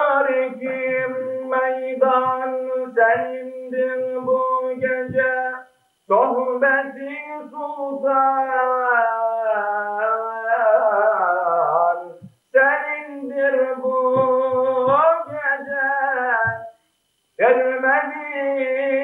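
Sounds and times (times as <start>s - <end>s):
man singing a hymn unaccompanied: 0.0s - 16.8s, 17.4s - 19.0s.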